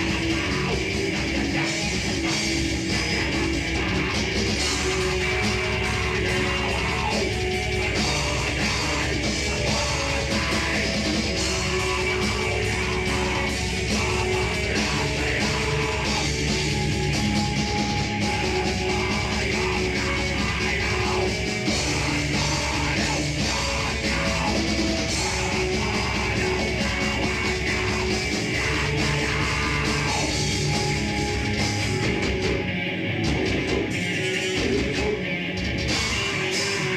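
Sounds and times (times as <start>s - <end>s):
rock band playing live: 0.0s - 36.9s.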